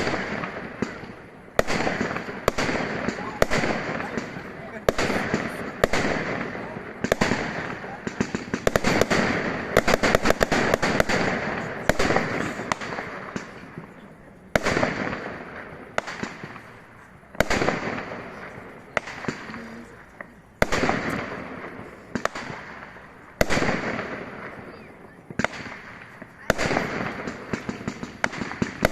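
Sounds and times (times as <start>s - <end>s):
fireworks bursts with rumble: 0.0s - 28.9s
fireworks crackling: 0.0s - 28.9s.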